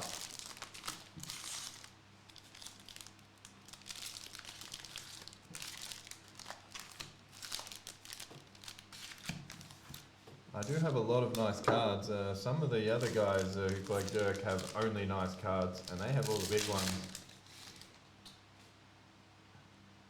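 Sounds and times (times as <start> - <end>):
foil wrappers crinkling and tearing: 0.0 - 11.6, 12.8 - 18.1.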